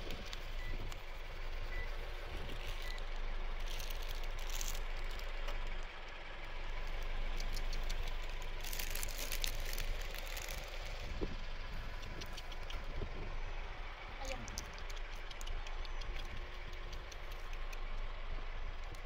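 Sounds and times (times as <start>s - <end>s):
crackly hiss: 0.0s - 19.0s
engine rumbling: 0.0s - 19.0s.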